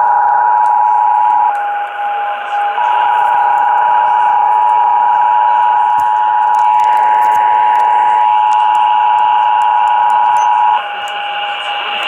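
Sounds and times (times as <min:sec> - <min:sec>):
two-tone alert alarm: 0:00.0 - 0:12.0.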